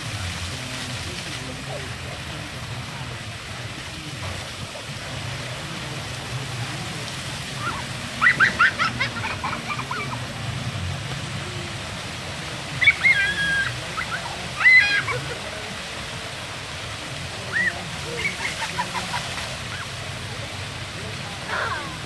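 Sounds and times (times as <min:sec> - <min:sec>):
waterfall splashing over stones: 0:00.0 - 0:22.0.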